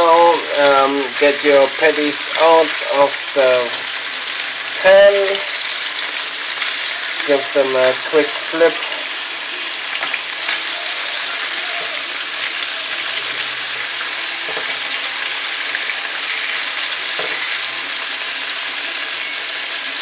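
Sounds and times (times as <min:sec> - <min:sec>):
burger patties sizzling in a pan: 0:00.0 - 0:20.0.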